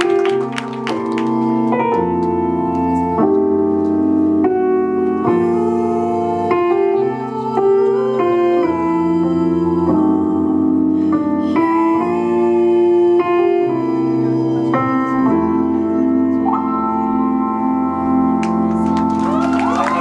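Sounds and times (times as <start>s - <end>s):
keyboard playing slow chords: 0.0s - 20.0s.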